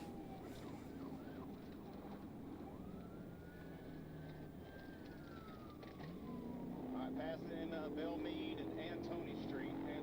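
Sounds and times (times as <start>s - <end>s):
police car siren: 0.0s - 10.0s
road noise: 0.0s - 10.0s.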